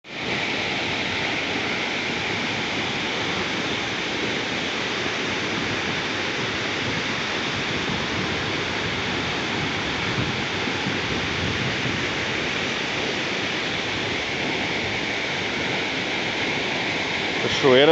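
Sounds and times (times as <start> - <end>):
waterfall rushing: 0.1 - 17.9.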